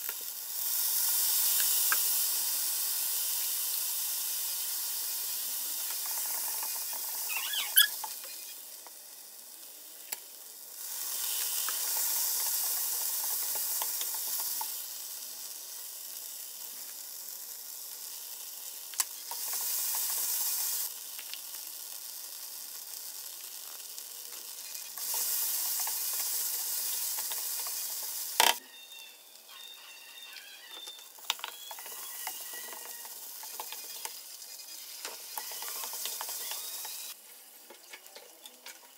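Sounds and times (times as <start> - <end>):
food sizzling in a wok: 0.0 - 38.9.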